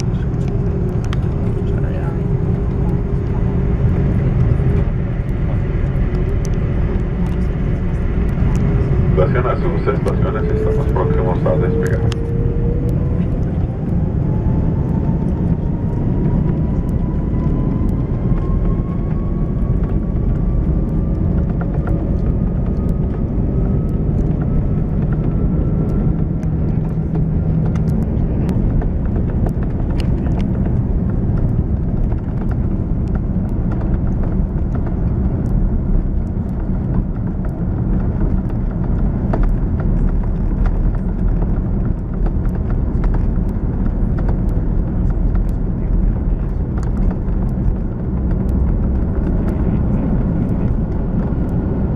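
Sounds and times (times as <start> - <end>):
jet engines rumbling and whining: 0.0 - 51.9.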